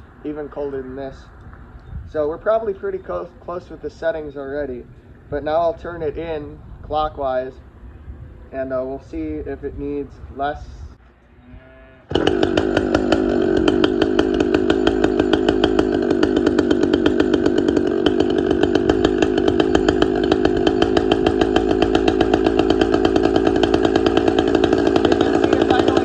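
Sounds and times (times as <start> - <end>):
chainsaw engine idling: 0.0 - 8.5, 12.1 - 26.0.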